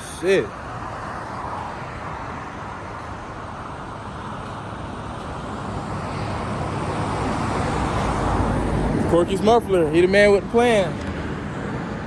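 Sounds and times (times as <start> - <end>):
road traffic hum: 0.0 - 12.0
vehicle approaching: 0.0 - 12.0.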